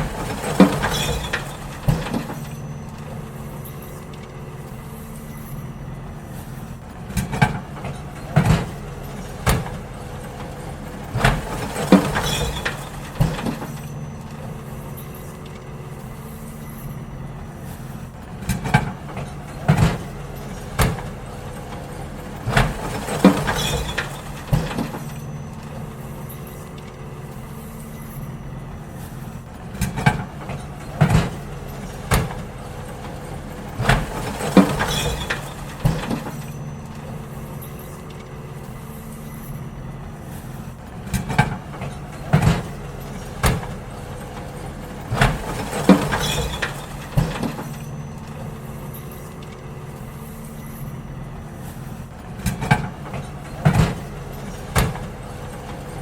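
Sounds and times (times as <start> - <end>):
bins clanking and banging: 0.0 - 56.0
garbage truck engine running: 0.0 - 56.0.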